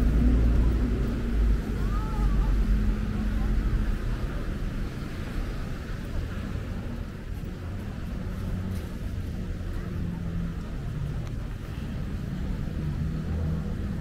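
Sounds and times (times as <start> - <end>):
traffic engines rumbling: 0.0 - 14.0.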